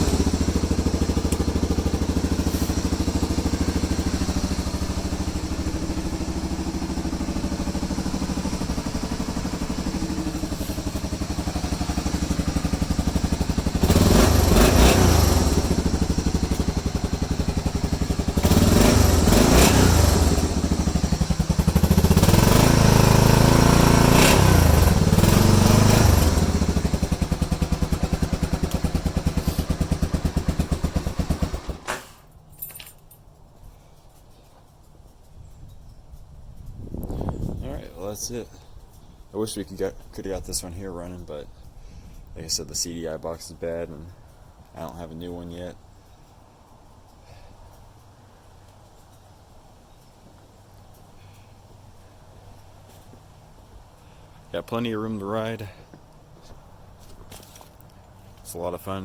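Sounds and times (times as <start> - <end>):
atv engine revving: 0.0 - 32.2, 42.3 - 59.0
atv engine idling: 0.0 - 32.5, 33.4 - 59.0.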